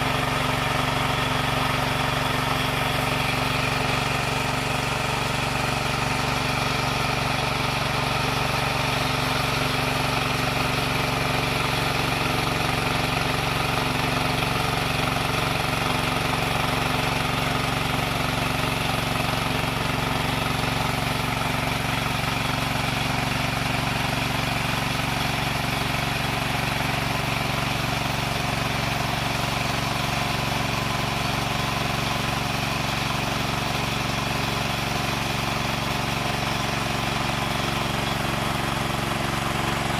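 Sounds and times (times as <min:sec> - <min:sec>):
wood saw machine running: 0:00.0 - 0:39.9.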